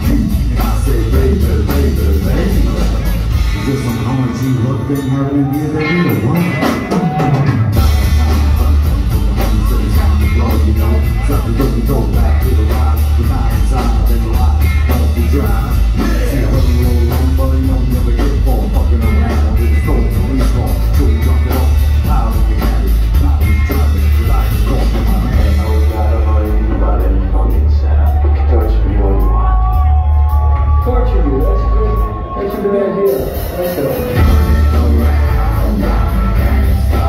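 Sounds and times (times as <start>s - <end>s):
lead vocal singing: 0.0s - 28.5s, 31.6s - 37.0s
drum-kit beat: 0.0s - 37.0s
guitar and keys: 0.0s - 37.0s
heavy bass: 0.0s - 37.0s.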